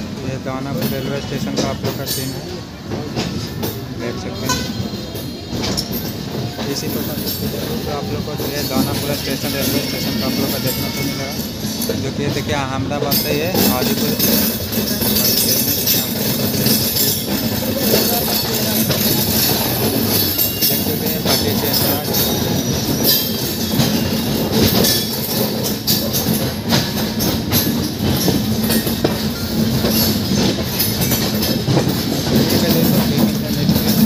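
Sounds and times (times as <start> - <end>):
train wheels rumbling on rails: 0.0 - 34.0
wheels clacking over rail joints: 0.0 - 34.0.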